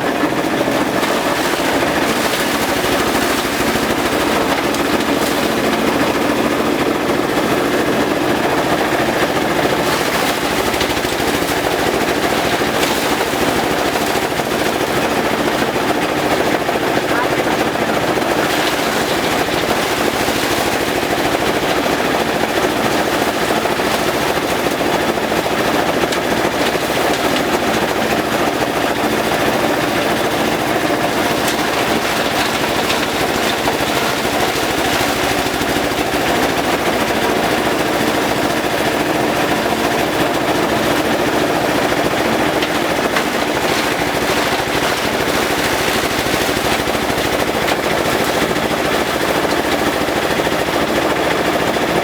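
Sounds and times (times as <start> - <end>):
compost shredder chopping grass: 0.0 - 52.0
shredder engine drone: 0.0 - 52.0.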